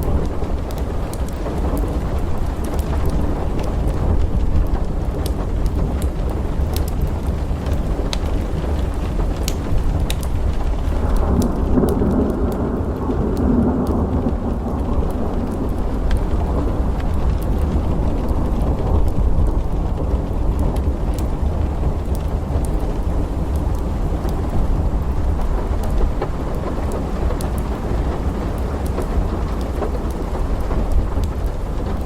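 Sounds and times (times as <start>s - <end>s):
low roll of thunder: 0.0s - 32.0s
steady rain: 0.0s - 32.0s.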